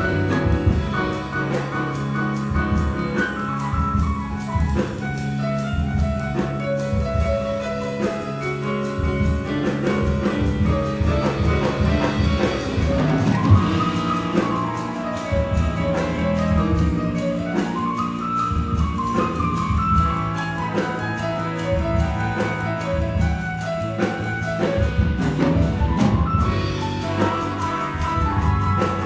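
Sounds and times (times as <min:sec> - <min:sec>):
jazz big band playing: 0:00.0 - 0:29.0.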